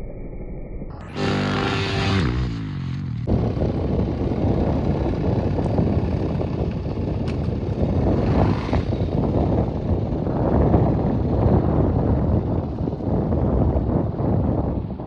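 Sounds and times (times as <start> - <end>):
dirt bike engine rumble: 0.9 - 15.0
wind buffeting microphone: 1.1 - 15.0.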